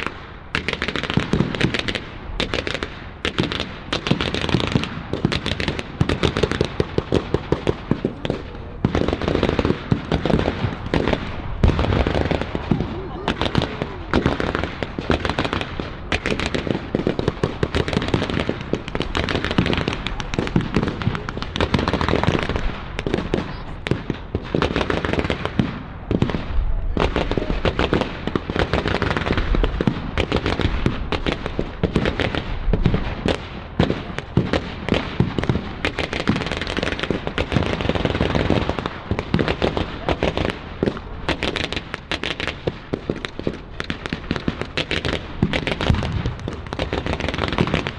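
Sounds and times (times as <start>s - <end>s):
rapid gunfire: 0.0s - 47.9s.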